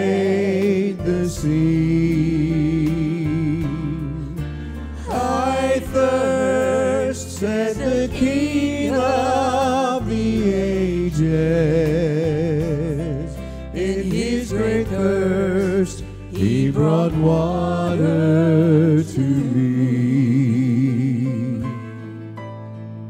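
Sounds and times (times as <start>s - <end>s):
sustained low bass notes: 0.0s - 21.9s
person singing gospel with vibrato: 0.0s - 22.0s.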